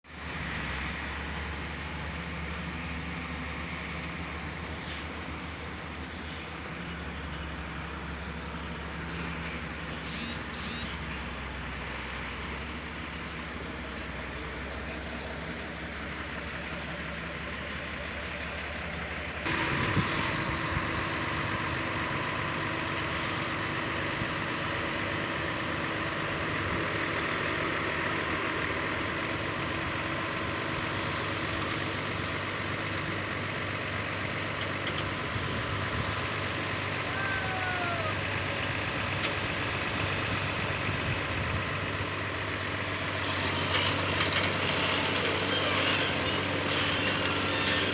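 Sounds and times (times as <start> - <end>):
road-building machinery engines: 0.0 - 47.9
loud engine whining: 0.1 - 47.9.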